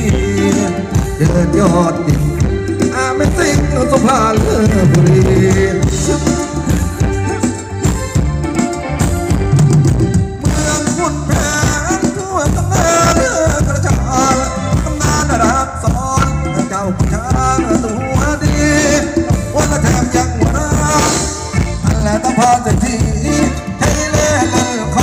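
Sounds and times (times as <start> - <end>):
person singing: 0.0 - 7.3, 10.4 - 25.0
band playing dance music: 0.0 - 25.0.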